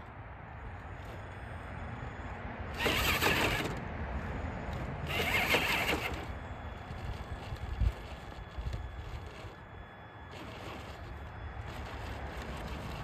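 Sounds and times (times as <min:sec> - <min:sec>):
toy truck electric motor whirring: 0:00.0 - 0:13.0.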